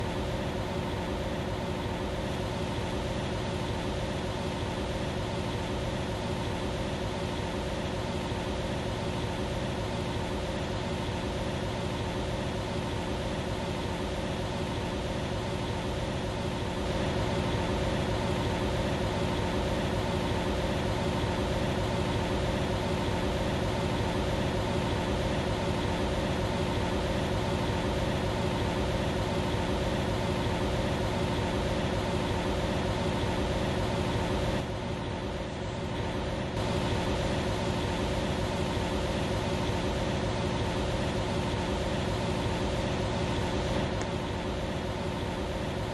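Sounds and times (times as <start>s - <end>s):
furnace running: 0.0s - 45.9s.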